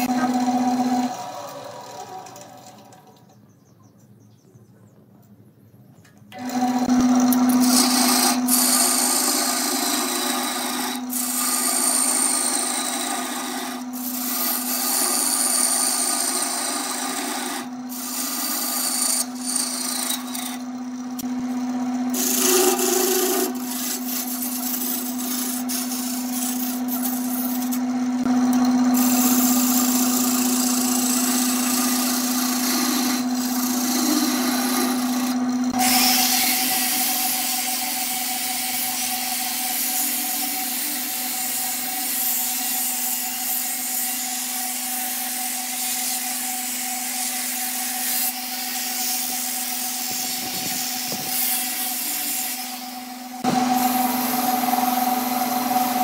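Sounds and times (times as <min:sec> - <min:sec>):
wood lathe motor hum: 0:00.0 - 0:03.3, 0:06.3 - 0:56.0
turning tool scraping wood: 0:06.4 - 0:54.9.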